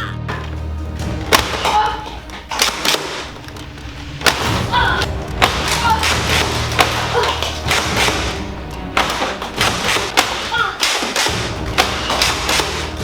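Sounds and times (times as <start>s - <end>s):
background music: 0.0s - 13.0s
darts striking: 0.3s - 13.0s
foam dart blasters firing: 0.4s - 13.0s.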